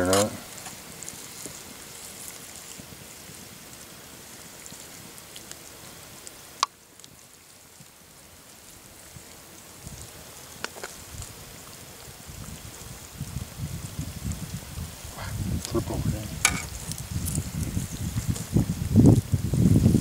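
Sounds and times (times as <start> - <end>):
meat sizzling in a skillet: 0.0 - 20.0.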